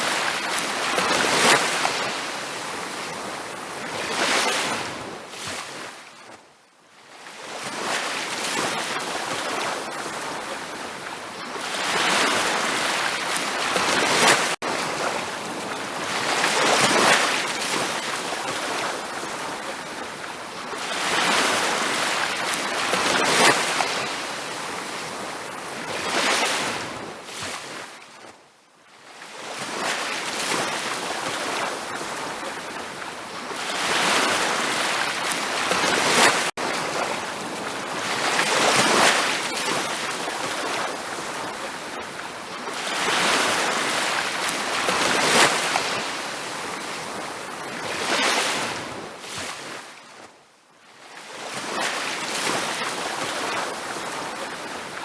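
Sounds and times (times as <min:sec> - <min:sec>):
ocean waves breaking on a beach: 0:00.0 - 0:55.0.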